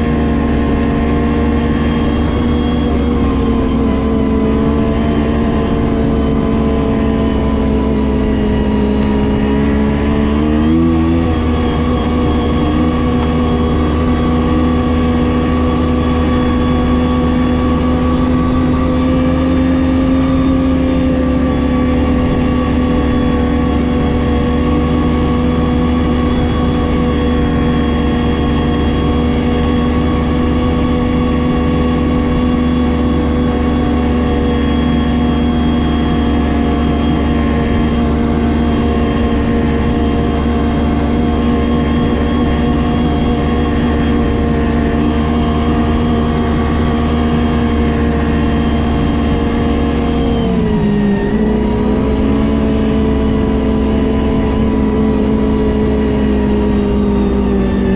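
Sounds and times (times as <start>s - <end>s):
snowmobile engine running: 0.0s - 57.9s.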